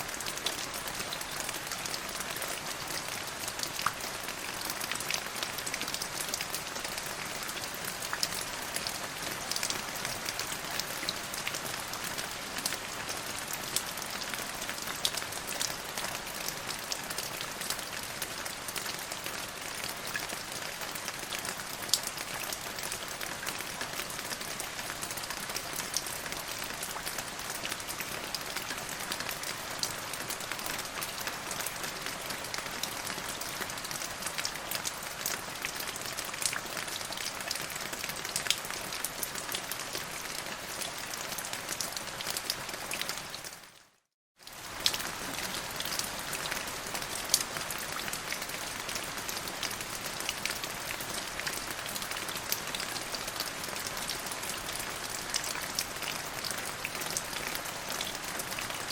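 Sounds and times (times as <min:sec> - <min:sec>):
steady rain with drop ticks: 0:00.0 - 0:58.9.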